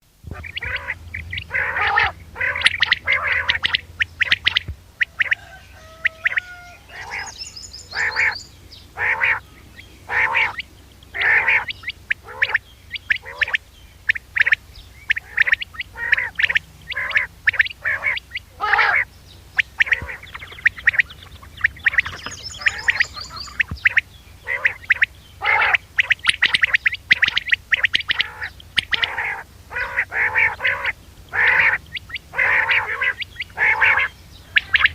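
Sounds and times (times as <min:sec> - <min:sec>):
low hum: 0:00.0 - 0:34.9
quail calling: 0:00.3 - 0:34.9.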